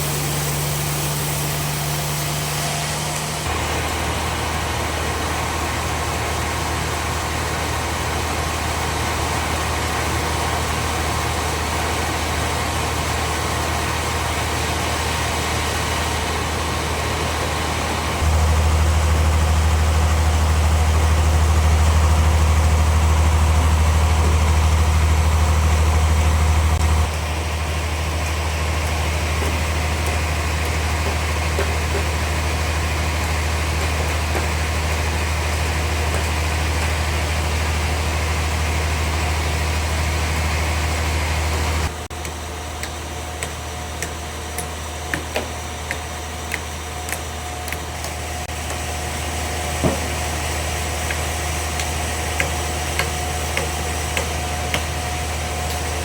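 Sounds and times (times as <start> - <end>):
bandsaw machinery humming: 0.0 - 56.0.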